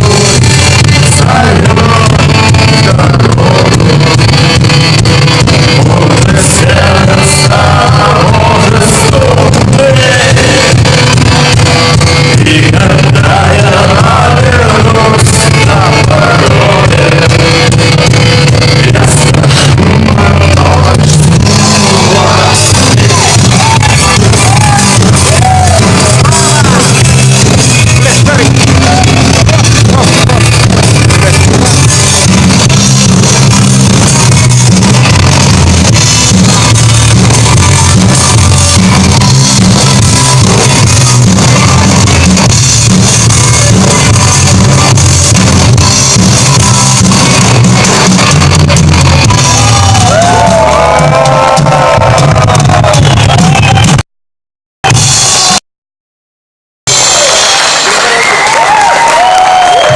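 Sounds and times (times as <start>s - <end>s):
person singing: 0.0s - 4.6s, 5.4s - 48.4s, 49.0s - 53.7s
rock band playing loudly: 0.0s - 54.0s, 54.8s - 55.6s, 56.9s - 59.9s.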